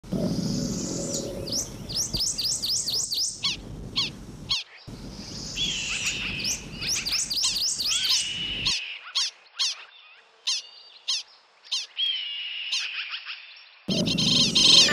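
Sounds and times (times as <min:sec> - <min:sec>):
songbird chirping: 0:00.0 - 0:14.9.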